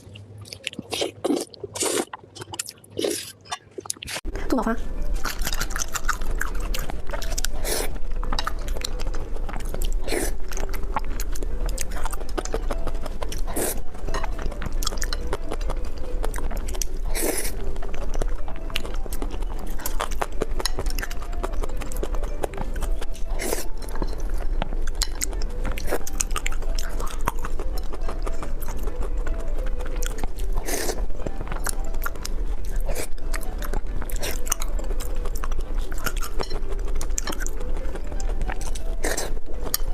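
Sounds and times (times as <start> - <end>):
person chewing with wet smacks: 0.0 - 39.9.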